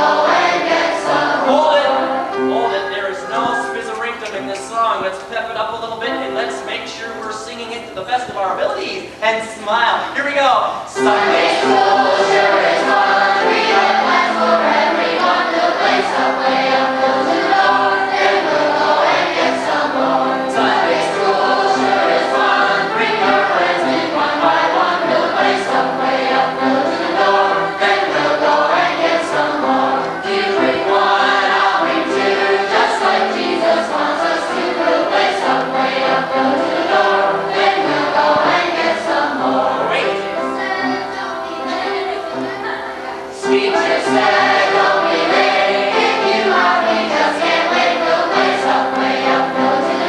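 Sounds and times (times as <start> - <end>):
children's choir singing: 0.0 - 50.0.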